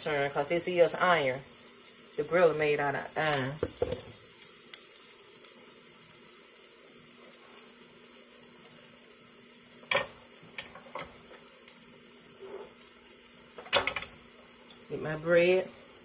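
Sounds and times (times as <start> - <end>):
burger sizzling in a skillet: 0.0 - 16.0.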